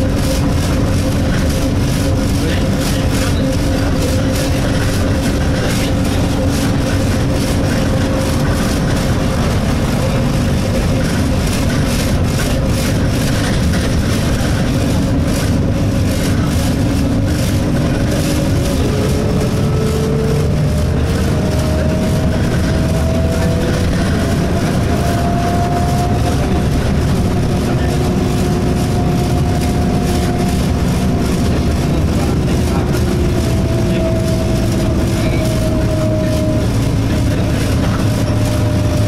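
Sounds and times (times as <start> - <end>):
bus engine and road rumble: 0.0 - 39.0
drivetrain whine rising: 0.0 - 39.0.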